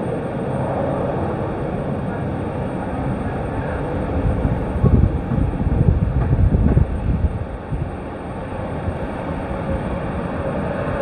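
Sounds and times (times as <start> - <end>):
faint steady whine: 0.0 - 11.0
jet engines taxiing: 0.0 - 11.0
wind buffeting microphone: 0.0 - 11.0.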